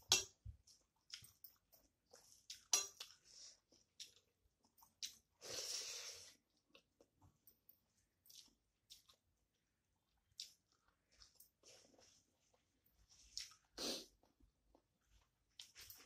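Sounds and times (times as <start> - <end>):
person chewing food: 0.0 - 7.2, 7.9 - 16.0.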